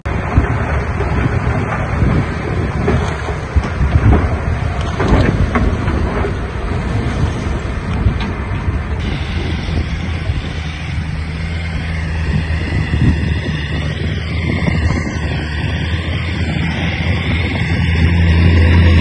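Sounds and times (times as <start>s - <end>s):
diesel engine running: 0.0s - 19.0s
high steady whine: 0.1s - 19.0s.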